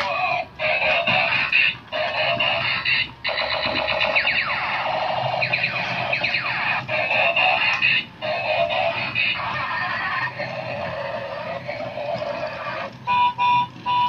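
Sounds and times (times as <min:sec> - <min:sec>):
tinny electronic toy music: 0:00.0 - 0:14.0.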